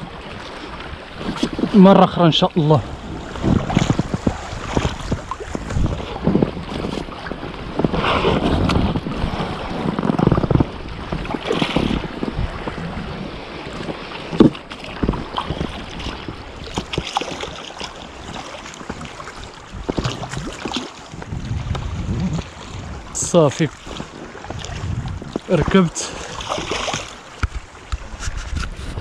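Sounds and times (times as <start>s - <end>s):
sea water sloshing and splashing: 0.0s - 29.0s
wind buffeting microphone: 0.0s - 29.0s.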